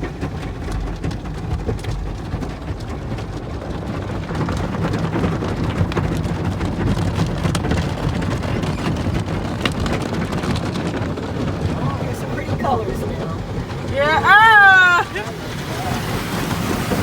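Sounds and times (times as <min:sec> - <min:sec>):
low rumble of machinery: 0:00.0 - 0:17.0
water spraying on car: 0:00.0 - 0:17.0.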